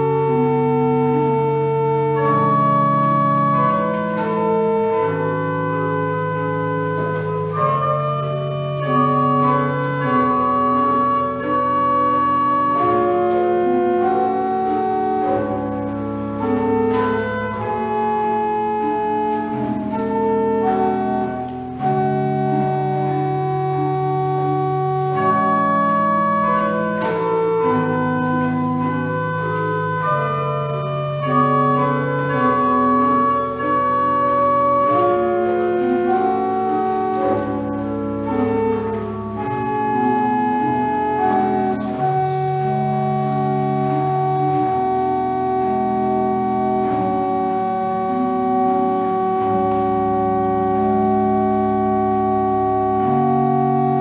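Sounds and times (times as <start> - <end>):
pipe organ playing chords: 0.0 - 54.0.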